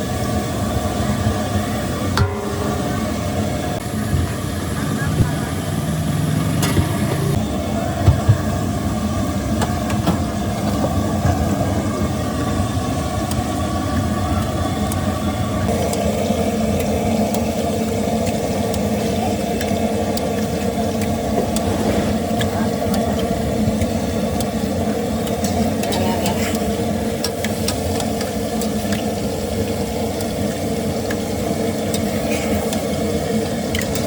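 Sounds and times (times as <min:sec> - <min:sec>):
traffic engines rumbling: 0:00.0 - 0:34.0.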